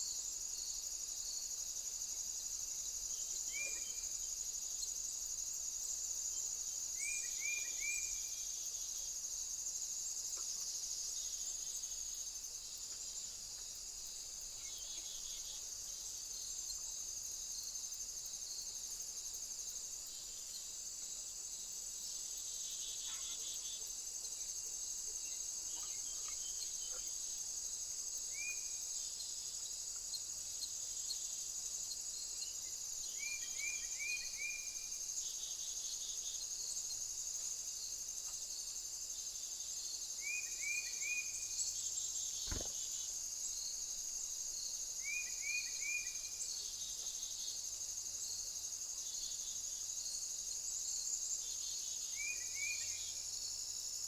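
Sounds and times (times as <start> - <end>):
insect chorus chirring: 0.0 - 54.0.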